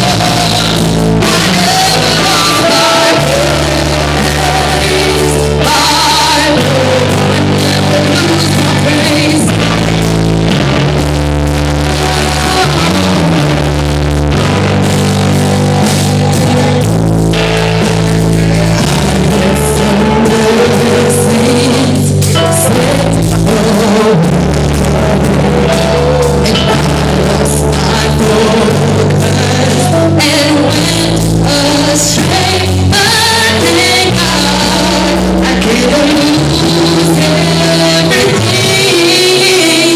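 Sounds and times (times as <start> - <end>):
gospel band music: 0.0 - 39.9
voices singing: 0.0 - 39.9.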